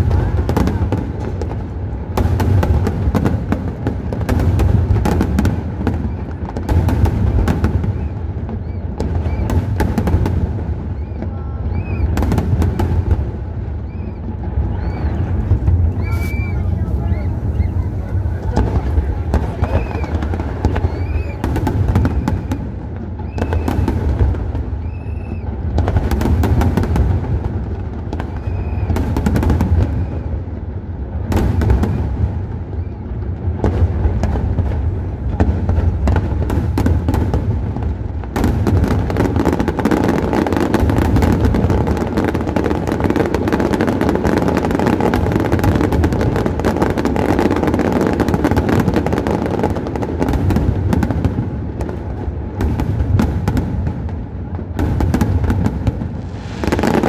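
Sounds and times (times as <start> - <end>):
fireworks booming: 0.0 - 57.0
fireworks crackling: 0.0 - 57.0.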